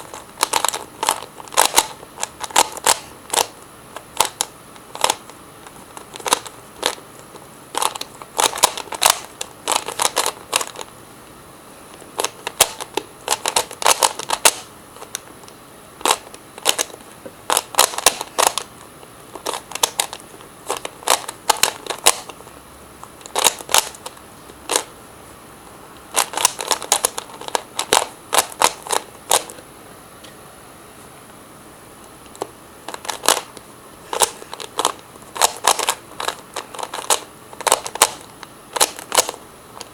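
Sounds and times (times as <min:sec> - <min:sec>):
puzzle cube clicking and rattling: 0:00.0 - 0:10.9, 0:11.9 - 0:24.9, 0:26.1 - 0:29.6, 0:32.2 - 0:39.9.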